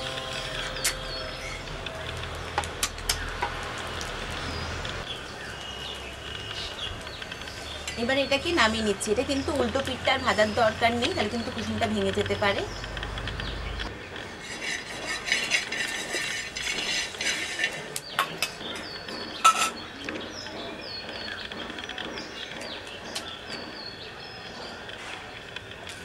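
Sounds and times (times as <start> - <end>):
small birds chirping: 4.3 - 15.5, 16.2 - 25.8.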